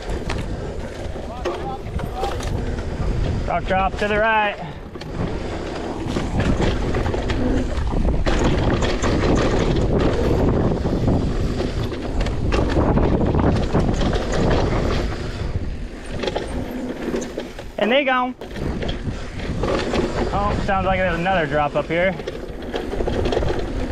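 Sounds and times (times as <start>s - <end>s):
bike clicks and rattles: 0.0s - 23.9s
bike tyres rushing on dirt: 0.0s - 23.9s
wind: 0.0s - 23.9s.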